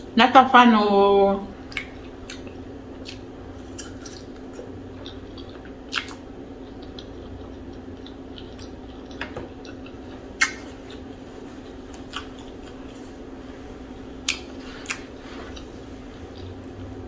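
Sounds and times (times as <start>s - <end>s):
low steady hum: 0.0s - 17.0s
wet chewing mouth sounds: 1.7s - 13.2s, 14.0s - 17.0s.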